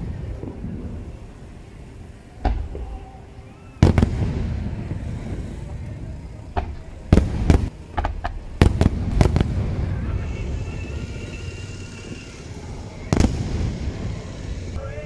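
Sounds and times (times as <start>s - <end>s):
firework shells bursting: 2.4s - 14.8s.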